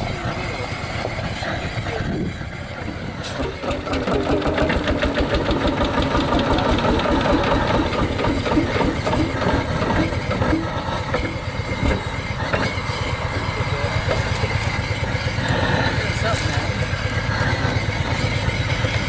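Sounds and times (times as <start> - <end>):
tractor engine knocking: 0.0 - 19.0.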